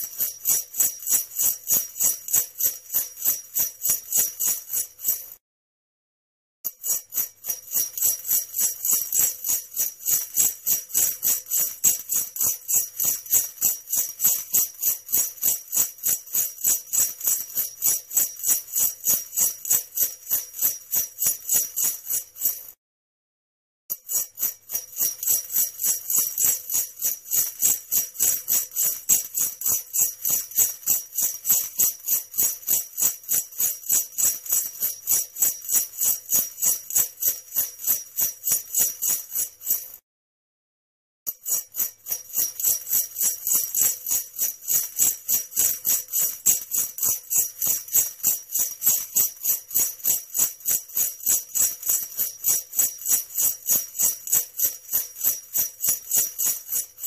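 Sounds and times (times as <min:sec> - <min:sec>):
sleigh bells jingling: 0:00.0 - 0:05.4, 0:06.7 - 0:22.7, 0:23.9 - 0:40.0, 0:41.3 - 0:57.0.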